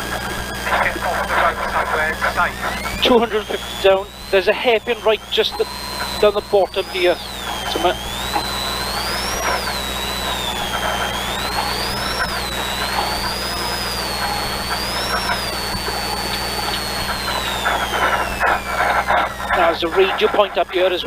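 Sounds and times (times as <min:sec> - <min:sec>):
high gear whine: 0:00.0 - 0:21.0
low drivetrain drone: 0:00.0 - 0:21.0.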